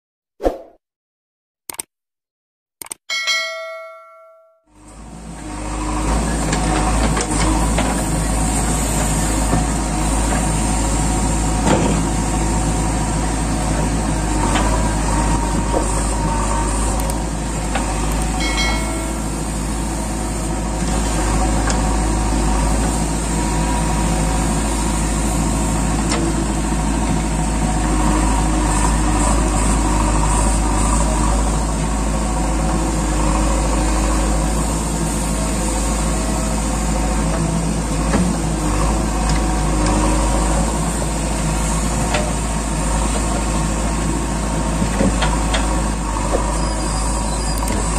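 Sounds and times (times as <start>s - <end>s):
diesel engine under load: 3.6s - 47.9s.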